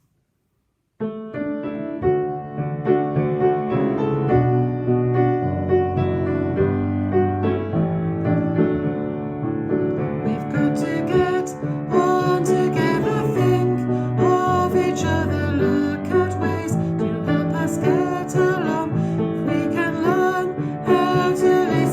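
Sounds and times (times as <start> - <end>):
piano chords: 1.0 - 21.9.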